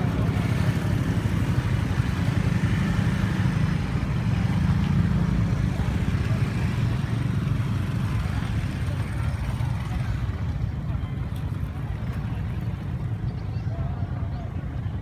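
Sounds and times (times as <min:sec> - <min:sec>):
large engine rumbling: 0:00.0 - 0:15.0.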